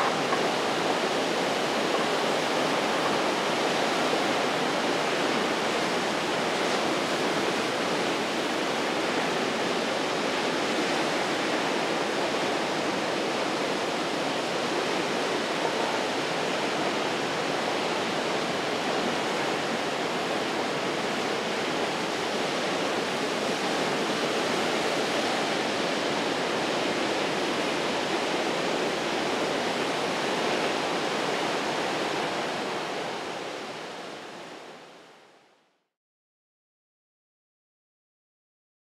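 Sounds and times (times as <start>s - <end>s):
surf washing over rocks: 0.0s - 34.6s.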